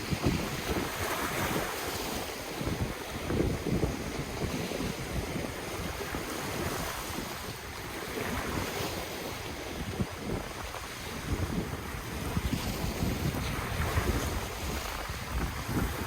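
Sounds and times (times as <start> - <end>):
ocean waves on shore: 0.0 - 16.0
wind buffeting microphone: 0.0 - 16.0.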